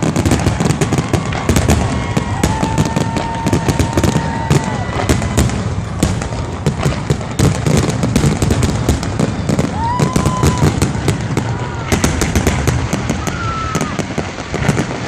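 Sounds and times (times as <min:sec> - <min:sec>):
high firework whistle: 0:00.0 - 0:06.3, 0:09.2 - 0:15.0
fireworks bangs and crackles: 0:00.0 - 0:15.0.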